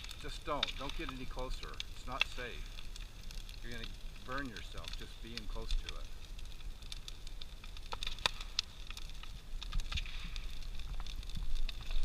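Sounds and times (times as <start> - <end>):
bonfire crackling and popping: 0.0 - 12.0
low fire rumble: 0.0 - 12.0.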